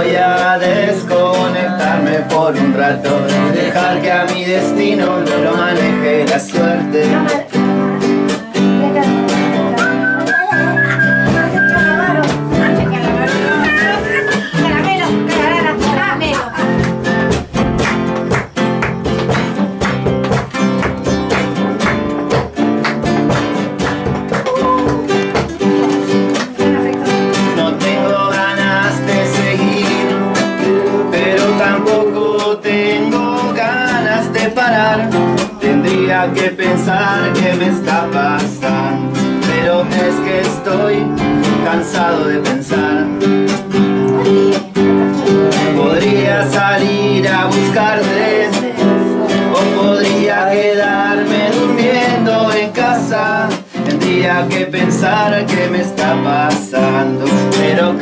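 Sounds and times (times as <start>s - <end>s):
acoustic guitars strumming folk tune: 0.0s - 58.0s.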